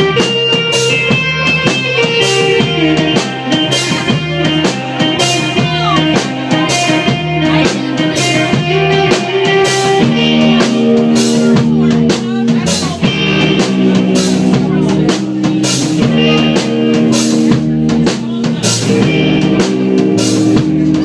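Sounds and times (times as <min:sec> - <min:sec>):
bass guitar notes: 0:00.0 - 0:21.0
drum kit beat: 0:00.0 - 0:21.0
sustained electric guitar: 0:00.0 - 0:21.0.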